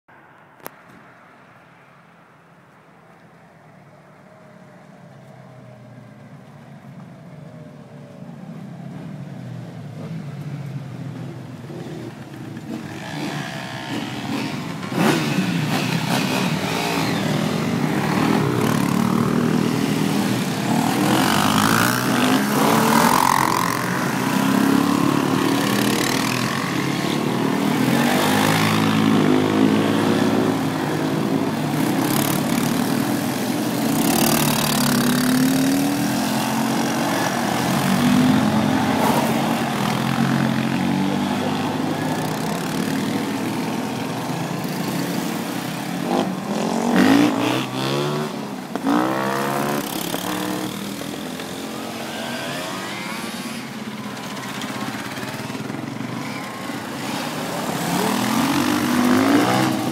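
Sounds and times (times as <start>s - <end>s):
motorcycles passing and revving: 0.6s - 59.9s.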